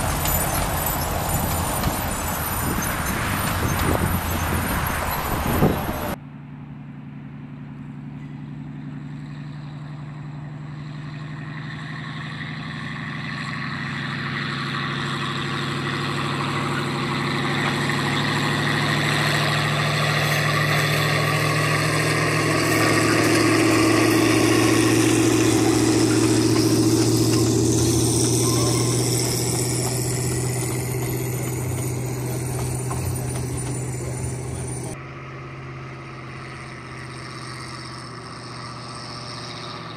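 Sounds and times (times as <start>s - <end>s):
locomotive engine passing by: 0.0s - 39.9s.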